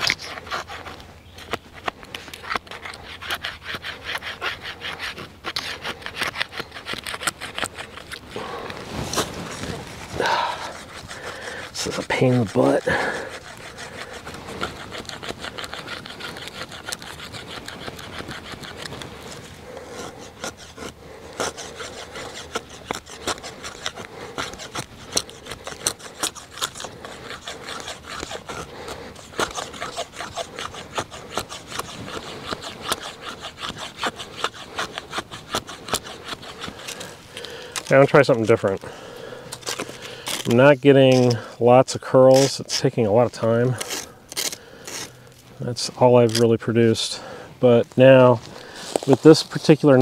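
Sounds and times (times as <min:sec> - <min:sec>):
wood scraping across knife blade: 0:00.0 - 0:50.0.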